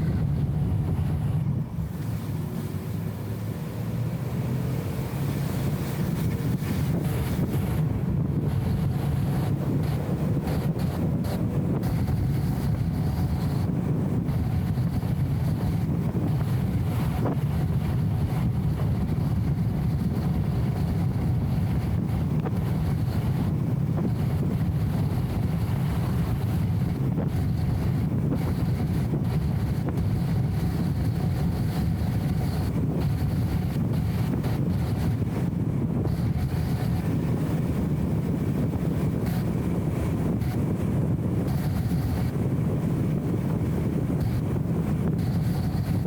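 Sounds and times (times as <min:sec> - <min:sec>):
car engine low rumble: 0:00.0 - 0:46.0
road noise: 0:00.0 - 0:46.0.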